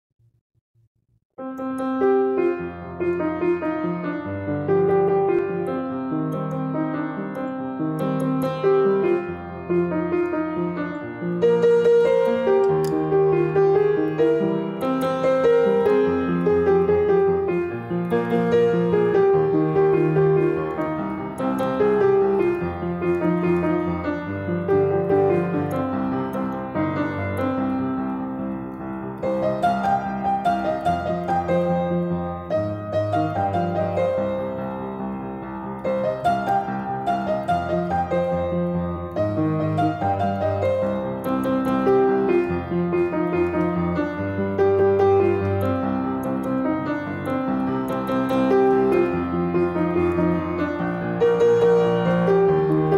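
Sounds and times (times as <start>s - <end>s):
slow piano music: 1.4s - 52.9s.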